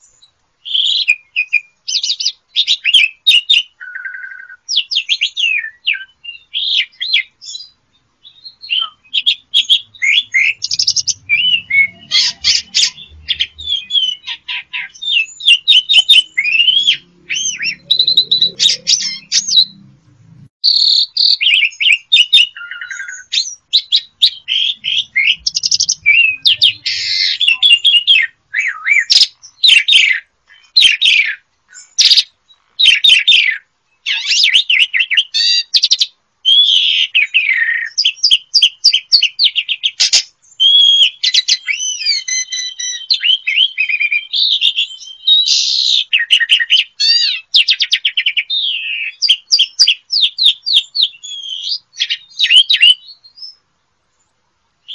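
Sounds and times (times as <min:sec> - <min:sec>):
starling singing: 0:00.0 - 0:53.6.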